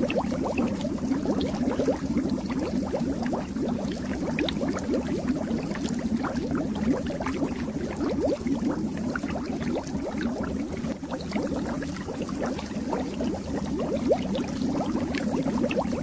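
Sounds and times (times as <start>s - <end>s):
fish tank water bubbling: 0.0s - 16.0s.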